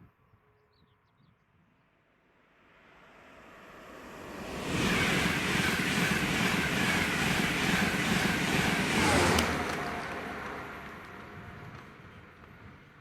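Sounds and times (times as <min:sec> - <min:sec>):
train passing at speed: 0:01.9 - 0:13.0.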